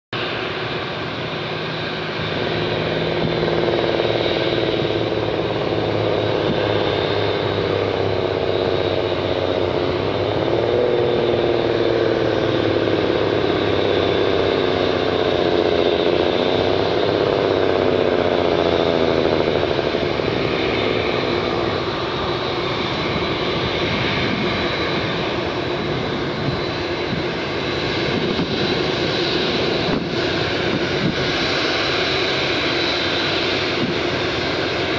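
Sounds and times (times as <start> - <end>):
jet engines whining: 0.2 - 34.9.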